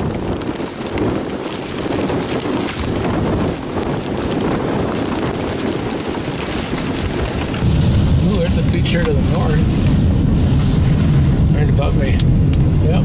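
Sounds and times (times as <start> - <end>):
rain spattering: 0.0 - 13.0
strong wind buffeting microphone: 0.0 - 13.0.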